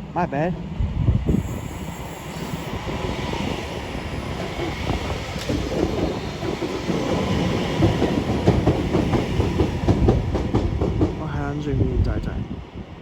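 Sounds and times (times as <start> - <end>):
electric train wheels rumbling: 1.0 - 13.0.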